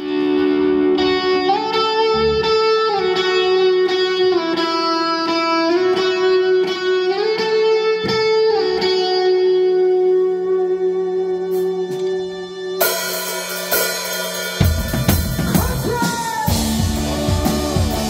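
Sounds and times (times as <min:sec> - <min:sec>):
electric guitar chords: 0:00.0 - 0:18.0.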